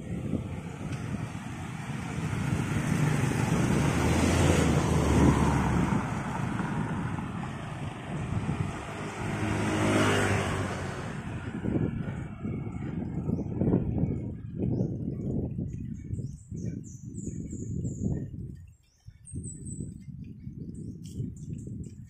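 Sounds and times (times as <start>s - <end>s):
vehicles passing on road: 0.0s - 22.0s
wind noise on microphone: 0.0s - 22.0s.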